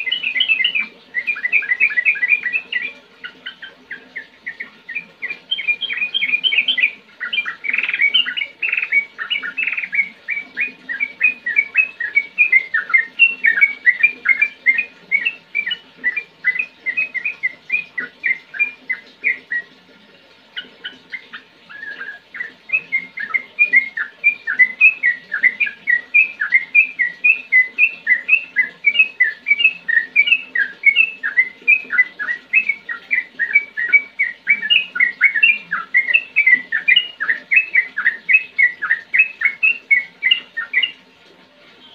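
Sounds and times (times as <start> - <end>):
bird chirping song: 0.0 - 41.9.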